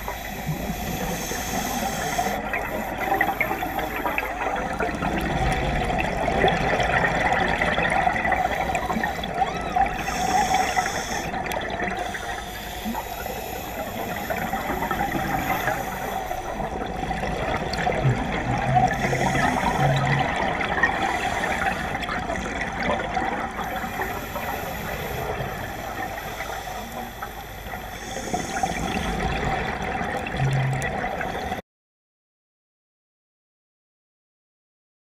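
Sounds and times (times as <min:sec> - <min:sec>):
underwater hiss: 0:00.0 - 0:30.2, 0:30.9 - 0:31.6.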